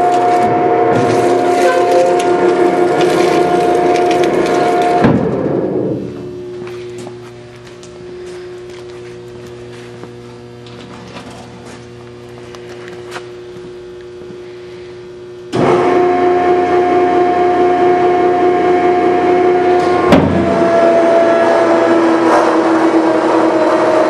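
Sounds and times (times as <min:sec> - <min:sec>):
electric motor and hydraulic pump humming: 0:00.0 - 0:24.0
hydraulic pump whine: 0:00.0 - 0:24.0.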